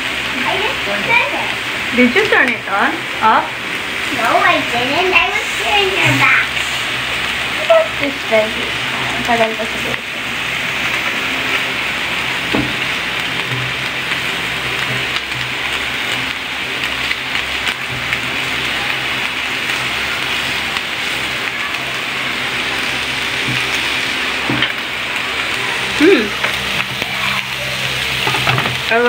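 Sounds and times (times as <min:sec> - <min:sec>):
meat sizzling on hot plate: 0:00.0 - 0:29.0.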